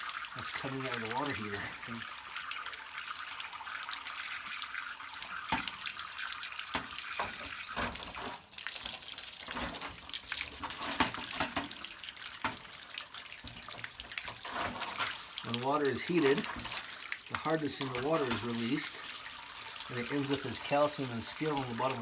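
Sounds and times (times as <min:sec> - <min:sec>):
water rushing from a drain: 0:00.0 - 0:22.0.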